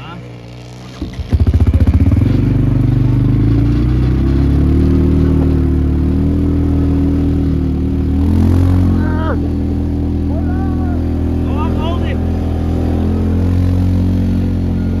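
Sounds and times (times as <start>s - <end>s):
pit bike engine running: 0.0s - 15.0s.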